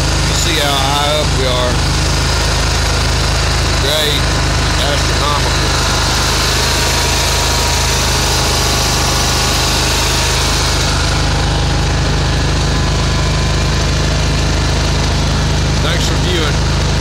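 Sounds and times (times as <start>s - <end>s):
mower engine running steadily: 0.0s - 17.0s.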